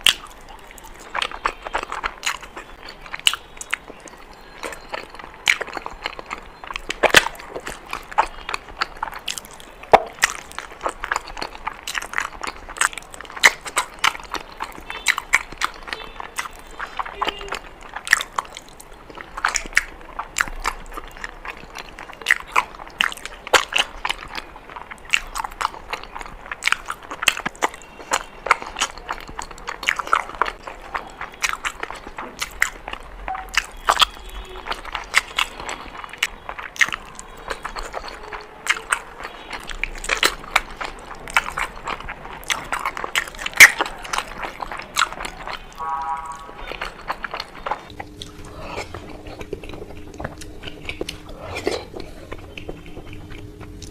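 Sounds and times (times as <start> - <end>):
person chewing crunchy sweets: 0.0 - 53.9.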